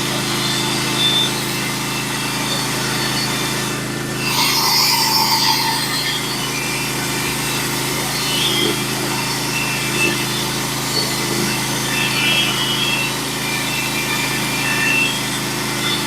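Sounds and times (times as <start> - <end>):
band sawmill cutting wood: 0.0 - 16.0.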